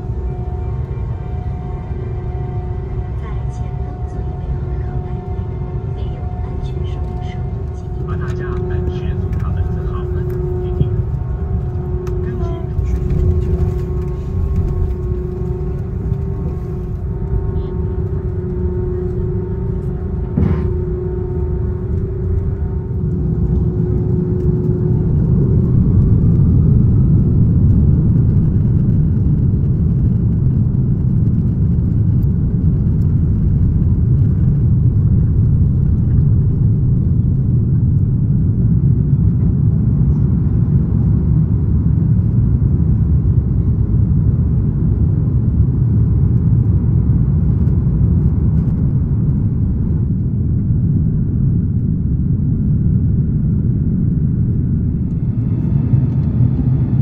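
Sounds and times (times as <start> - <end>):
jet engines low rumble: 0.0 - 57.0.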